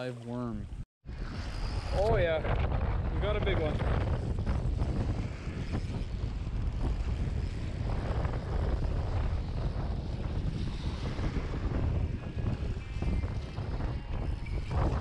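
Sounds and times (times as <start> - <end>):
wind buffeting microphone: 0.3 - 15.0.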